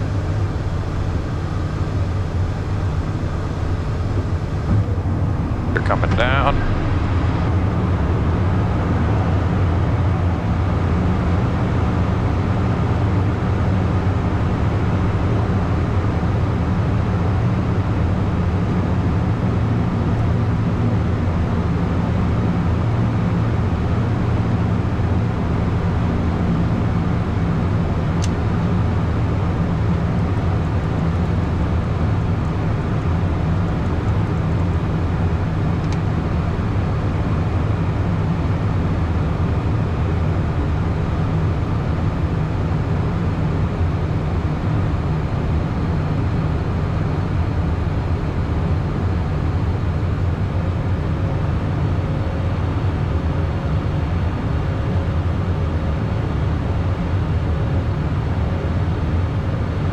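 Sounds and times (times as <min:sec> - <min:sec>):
jet cockpit engine hum: 0:00.0 - 0:59.9.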